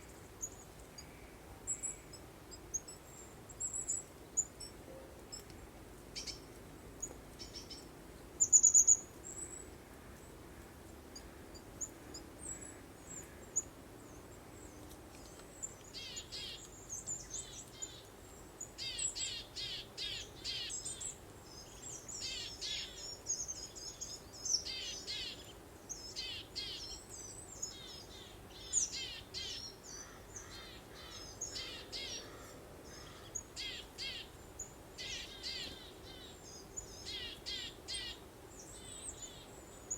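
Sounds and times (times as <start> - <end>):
songbirds singing and chirping: 6.2 - 39.9.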